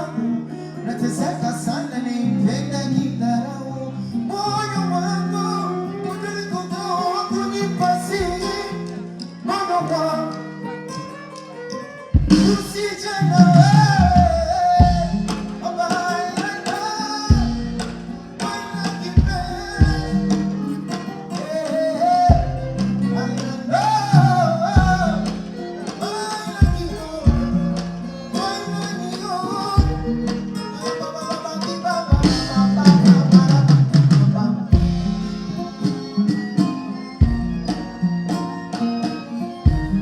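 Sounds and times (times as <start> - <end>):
person singing: 0.0 - 37.6
plucked guitar: 0.0 - 40.0.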